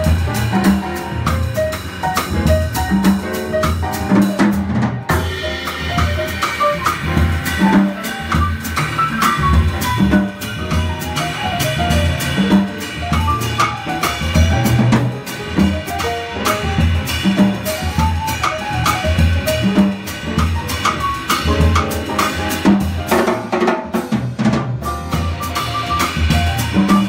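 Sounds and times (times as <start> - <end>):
acoustic piano: 0.0 - 27.0
drum kit with cymbals: 0.0 - 27.0
upright double bass: 0.0 - 27.0.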